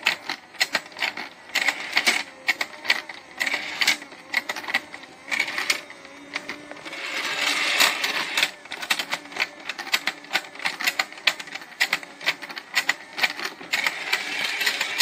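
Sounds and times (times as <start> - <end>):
toy escalator steps clacking: 0.0 - 15.0.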